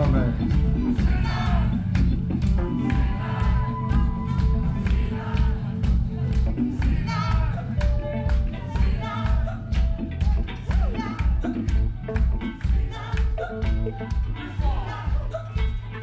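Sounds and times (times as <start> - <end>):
live band music: 0.0 - 16.0
voices singing: 0.0 - 16.0.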